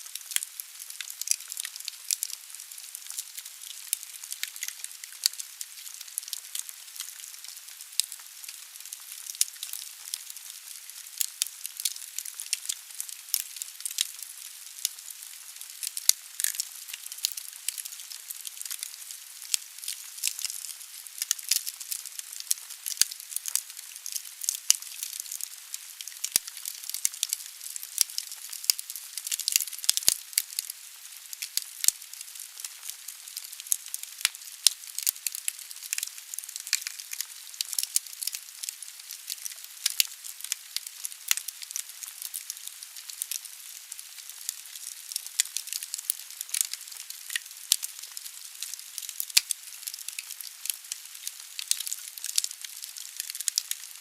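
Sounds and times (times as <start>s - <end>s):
burning logs crackling and popping: 0.1s - 53.9s.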